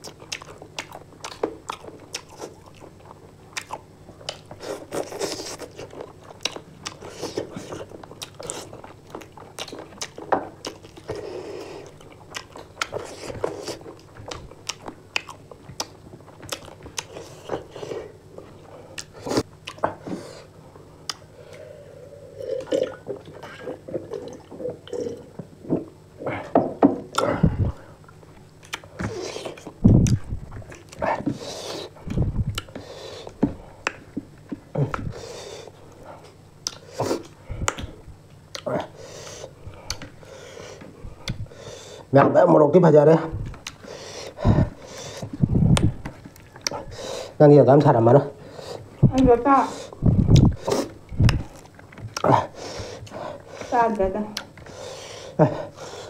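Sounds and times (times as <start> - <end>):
wet chewing and lip-smacking: 0.0 - 20.1, 21.0 - 21.7, 27.1 - 41.5, 43.5 - 47.0, 49.1 - 53.7, 54.3 - 56.0.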